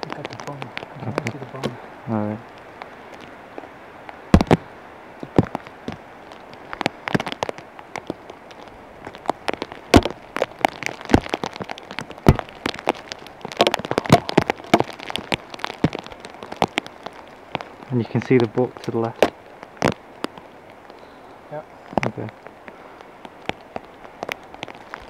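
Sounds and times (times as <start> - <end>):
raindrops tapping: 0.0 - 25.0.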